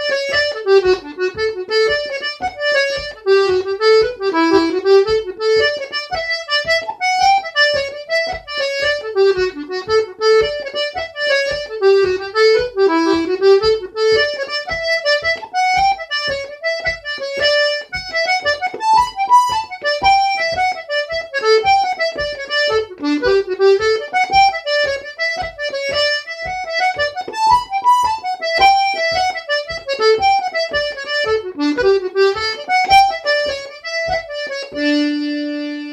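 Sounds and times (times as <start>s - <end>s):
button accordion playing a jig: 0.0s - 35.9s.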